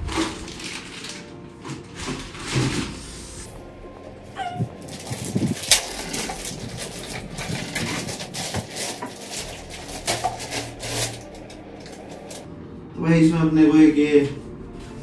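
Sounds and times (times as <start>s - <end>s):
plastic wrapping crinkling: 0.0s - 12.5s.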